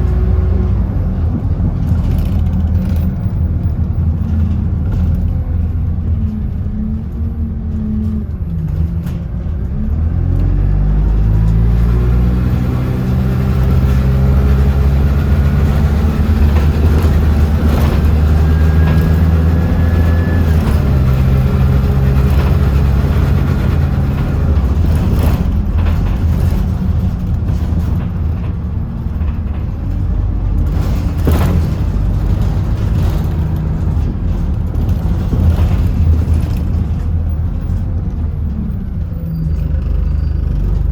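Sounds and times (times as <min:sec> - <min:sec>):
bus engine pulling away: 0:00.0 - 0:40.9.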